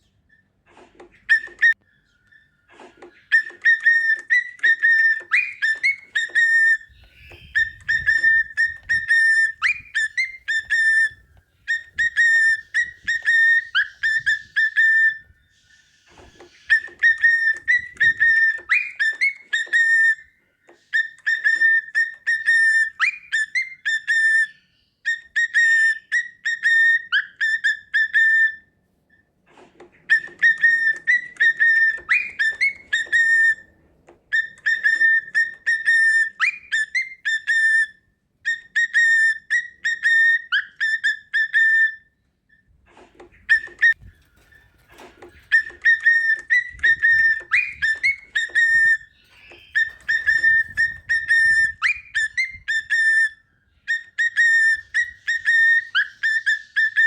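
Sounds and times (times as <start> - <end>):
cockatiel whistling: 1.2 - 28.7, 29.9 - 33.7, 34.3 - 42.1, 43.3 - 57.0.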